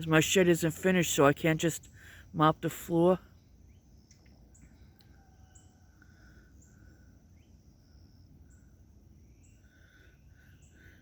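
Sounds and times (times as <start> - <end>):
faint high bird chirps: 1.1 - 11.0.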